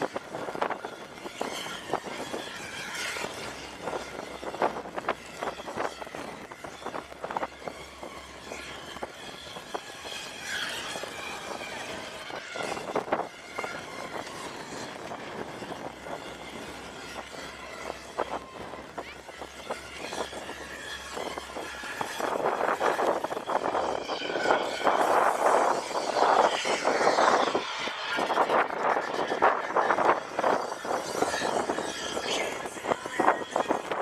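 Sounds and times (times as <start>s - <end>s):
engine hum: 0.0s - 34.0s.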